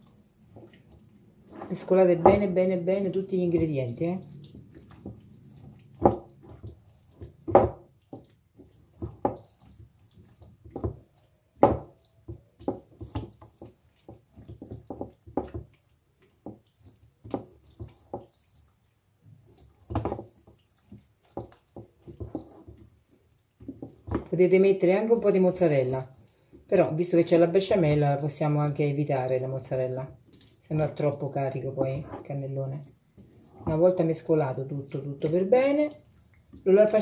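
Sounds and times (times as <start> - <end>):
wooden spoon stirring in metal bowl: 0.0 - 37.0.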